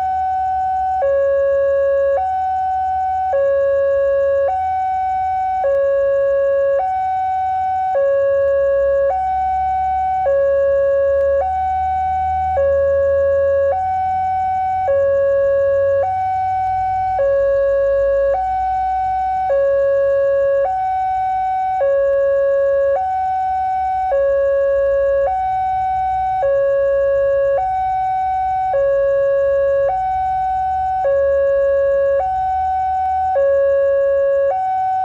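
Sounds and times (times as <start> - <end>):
two-tone electronic alarm: 0.0 - 35.0.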